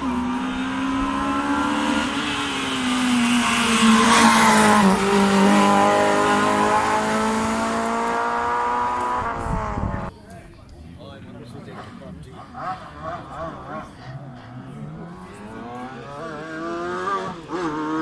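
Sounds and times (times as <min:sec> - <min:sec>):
race car engine passing: 0:00.0 - 0:10.1, 0:11.6 - 0:18.0.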